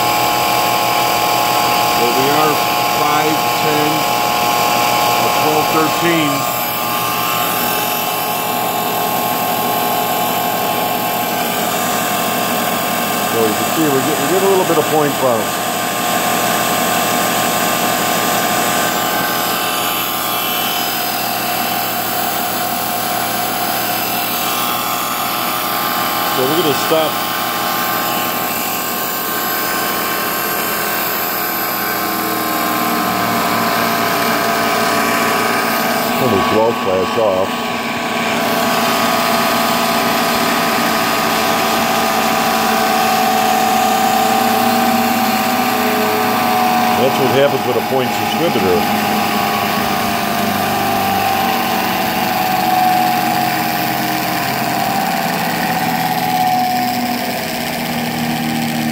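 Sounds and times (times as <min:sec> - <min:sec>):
motor whirring steadily: 0:00.0 - 0:58.9.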